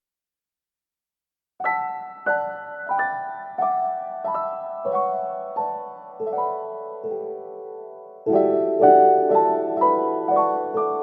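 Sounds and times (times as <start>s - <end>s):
slow piano notes: 1.6s - 11.0s.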